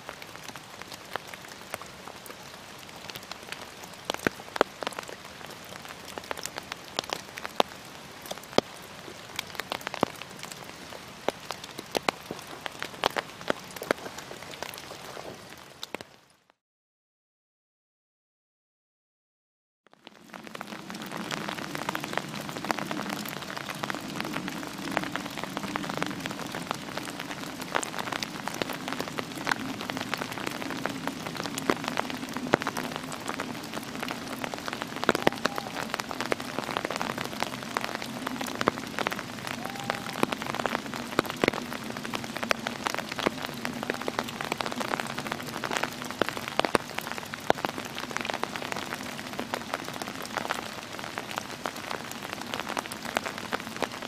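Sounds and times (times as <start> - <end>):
rain pattering on dead leaves: 0.0 - 16.6, 19.9 - 54.0.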